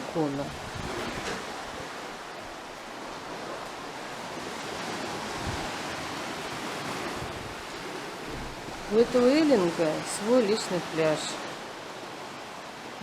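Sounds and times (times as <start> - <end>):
sea surf washing: 0.0 - 13.0.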